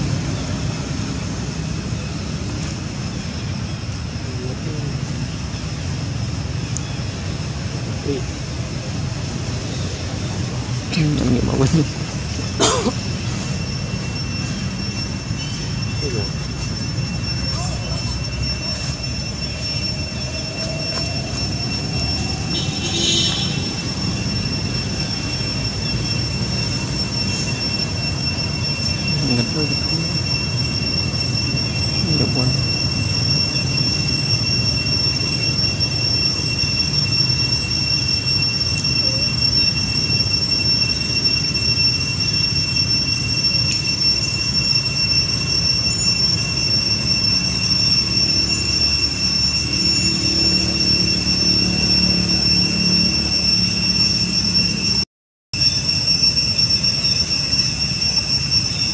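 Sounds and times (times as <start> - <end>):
insects droning: 0.0 - 55.0, 55.6 - 58.9.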